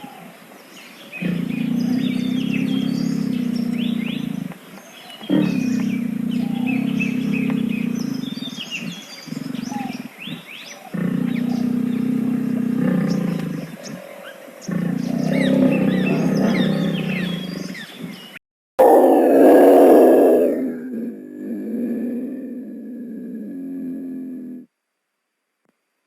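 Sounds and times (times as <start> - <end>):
birds chirping: 0.0 - 24.6
wild cat low calls: 1.1 - 24.7.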